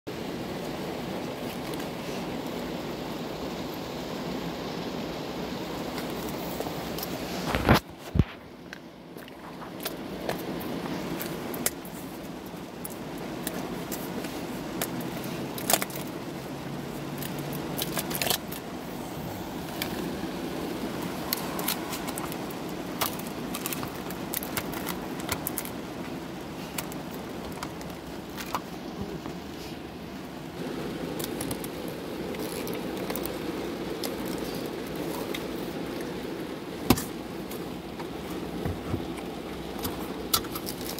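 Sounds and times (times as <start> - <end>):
steady low hum: 0.1 - 40.3.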